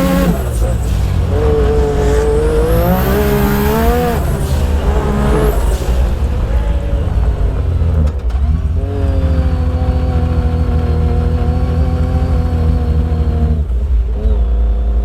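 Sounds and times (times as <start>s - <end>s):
engine running under load: 0.0s - 15.0s.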